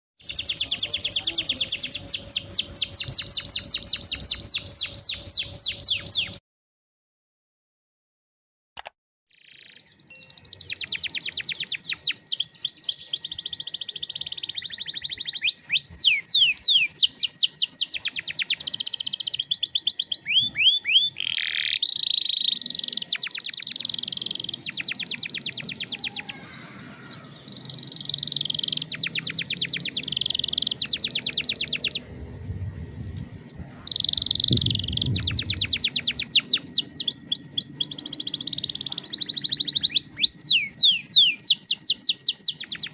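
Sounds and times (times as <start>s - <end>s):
canary singing trills: 0.2s - 6.4s, 9.3s - 32.1s, 33.5s - 42.9s.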